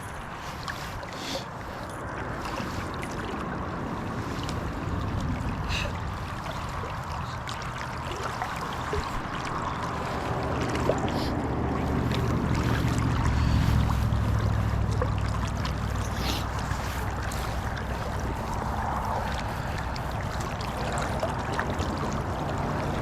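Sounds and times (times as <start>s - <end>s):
flowing water rushing: 0.0s - 23.0s
low rumble: 2.0s - 8.4s, 9.0s - 23.0s.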